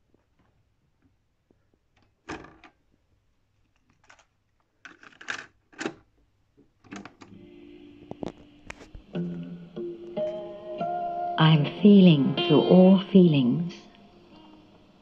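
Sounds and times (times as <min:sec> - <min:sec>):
steady hum with tape hiss: 0:00.0 - 0:15.0.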